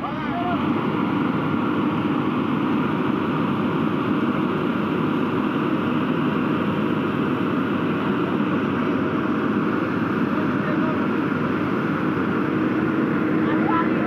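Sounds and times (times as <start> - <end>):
truck engine running under load: 0.0 - 14.0.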